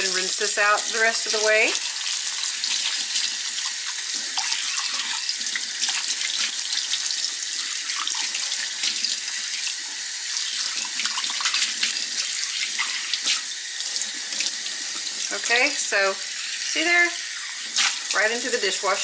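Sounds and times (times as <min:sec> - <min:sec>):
faucet running into sink: 0:00.0 - 0:19.0.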